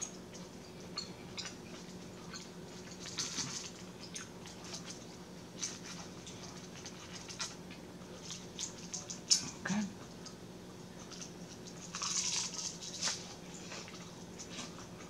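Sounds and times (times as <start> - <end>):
wet chewing and lip smacks: 0.0 - 10.4, 11.0 - 15.0
low steady hum: 0.0 - 15.0.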